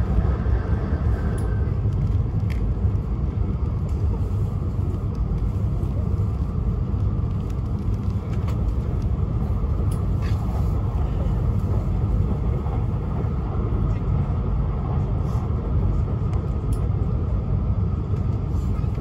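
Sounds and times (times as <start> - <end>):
train rumble inside cabin: 0.0 - 19.0.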